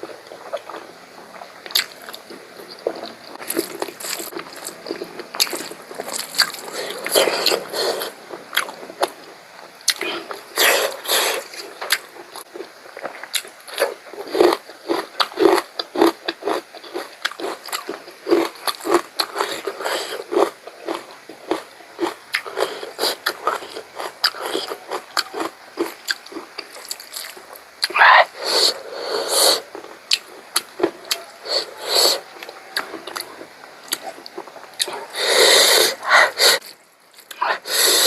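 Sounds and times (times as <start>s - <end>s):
person chewing and smacking: 0.2s - 28.8s, 29.5s - 38.0s.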